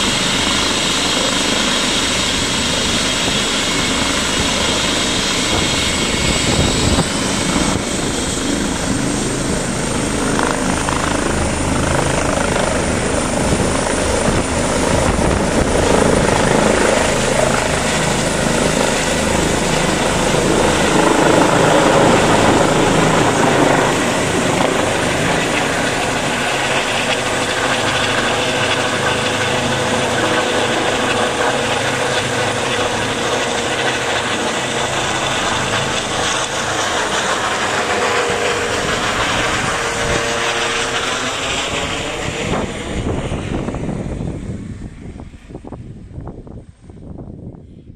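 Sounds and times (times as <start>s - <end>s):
helicopter turbines and rotor whine: 0.0s - 47.9s.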